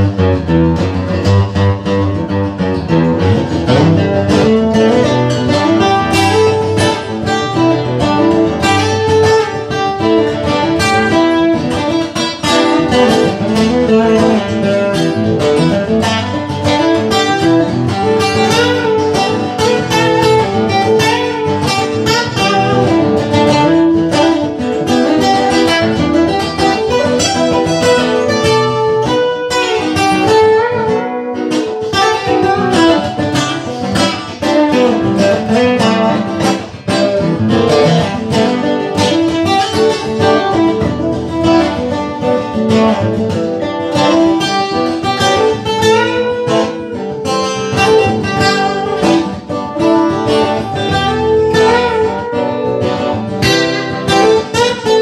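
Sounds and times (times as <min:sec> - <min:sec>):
acoustic guitar chords: 0:00.0 - 0:55.0.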